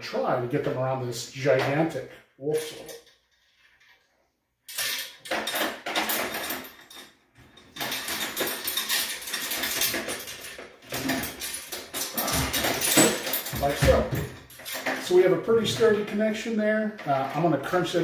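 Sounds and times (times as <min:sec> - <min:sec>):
metal chain clinking and rattling: 0:02.5 - 0:18.0.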